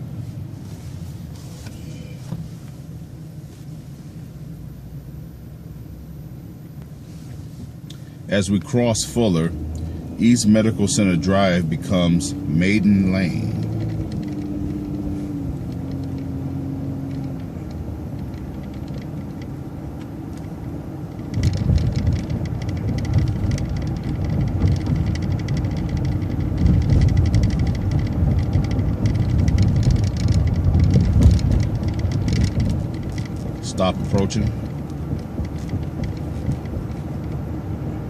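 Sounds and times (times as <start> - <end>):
bus engine and drivetrain hum: 0.0 - 38.0.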